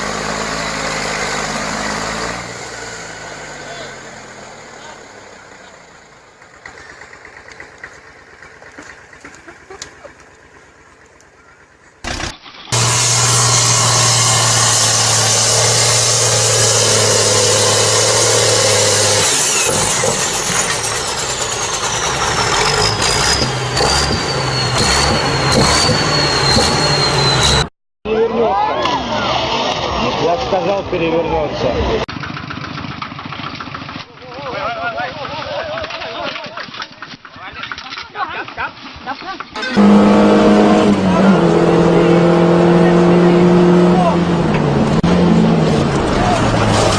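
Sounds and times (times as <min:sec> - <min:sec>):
loud vehicle engine hum: 0:00.0 - 0:27.7, 0:28.5 - 0:34.3, 0:39.6 - 0:46.9.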